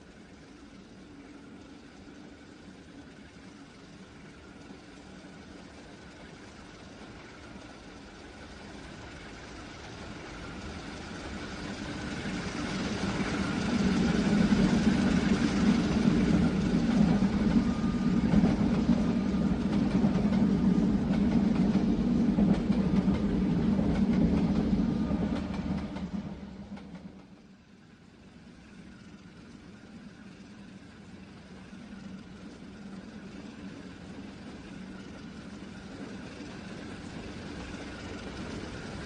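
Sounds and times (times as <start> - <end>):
train rail noise: 0.0 - 39.0.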